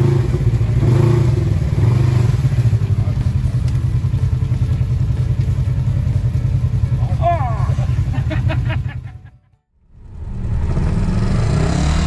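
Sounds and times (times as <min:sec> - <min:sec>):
utv engine running: 0:00.0 - 0:09.3, 0:09.9 - 0:12.0.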